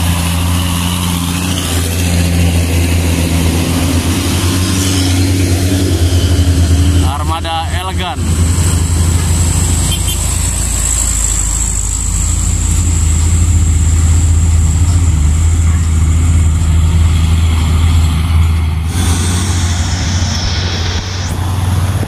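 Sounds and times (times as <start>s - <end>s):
dump truck engines rumbling: 0.0s - 22.0s
high whine: 0.0s - 22.0s.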